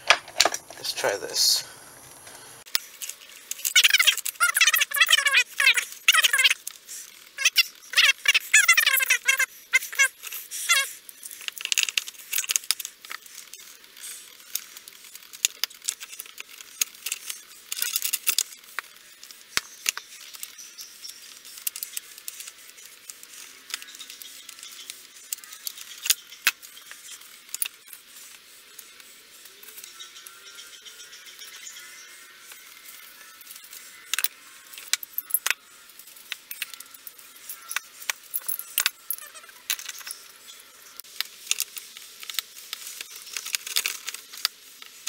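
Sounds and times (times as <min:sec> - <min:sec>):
metal parts clicking and clinking: 0:00.0 - 0:00.8, 0:02.7 - 0:28.0, 0:32.9 - 0:45.0.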